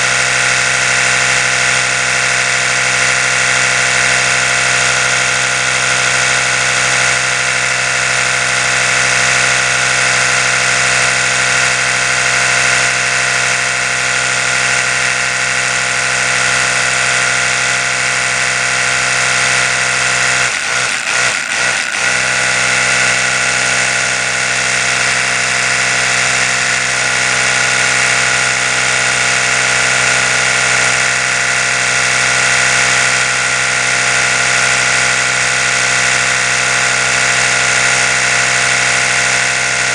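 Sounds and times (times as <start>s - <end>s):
electric toothbrush buzzing: 0.0s - 39.9s.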